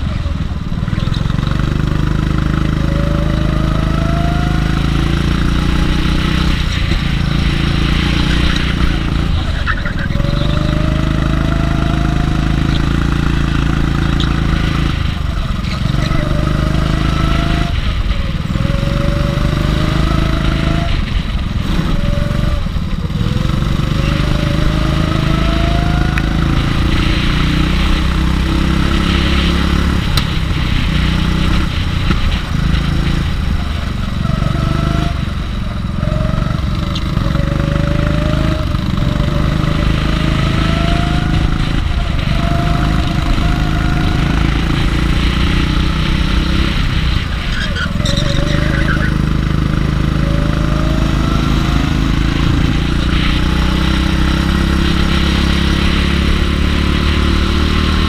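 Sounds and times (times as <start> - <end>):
go-kart engine accelerating: 0.0 - 58.0.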